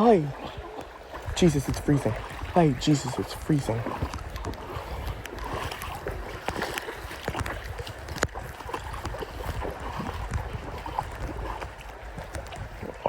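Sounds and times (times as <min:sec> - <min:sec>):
feet splashing through water: 0:00.0 - 0:13.0.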